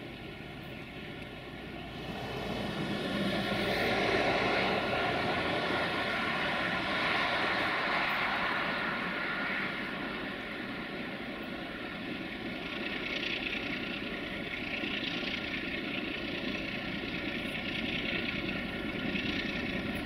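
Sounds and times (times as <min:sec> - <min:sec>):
diesel locomotive engine under load: 0:00.0 - 0:20.0.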